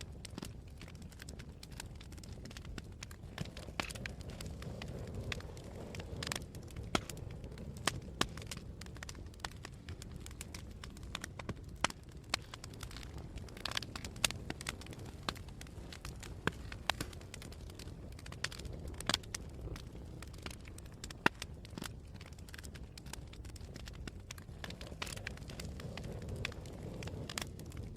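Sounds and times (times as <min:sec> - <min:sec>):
campfire crackling and popping: 0:00.0 - 0:27.9
low rumble of flames: 0:00.0 - 0:27.9.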